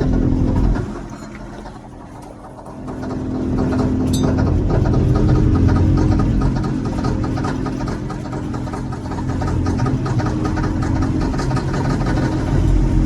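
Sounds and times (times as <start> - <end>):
tractor diesel engine running rough: 0.0 - 13.0.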